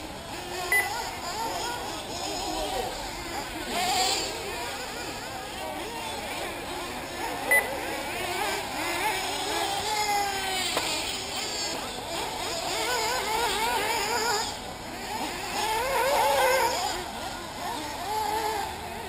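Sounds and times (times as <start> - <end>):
rc buggy engines revving: 0.0 - 19.0.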